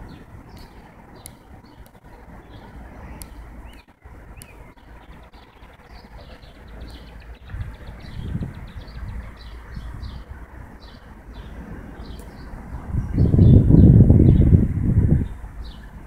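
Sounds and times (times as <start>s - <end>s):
rising-and-falling bird calls: 0.0s - 14.6s
low steady rumble: 0.0s - 16.0s
small birds chirping: 0.0s - 16.0s.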